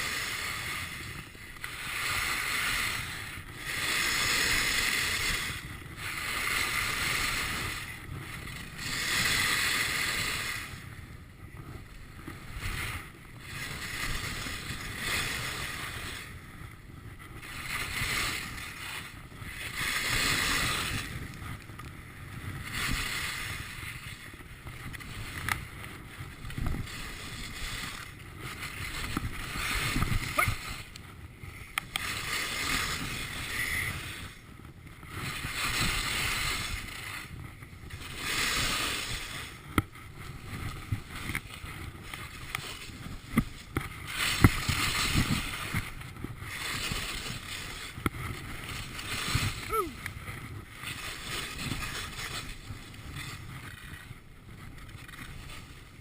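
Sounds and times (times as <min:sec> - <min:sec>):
skis swishing on snow: 0:00.0 - 0:56.0.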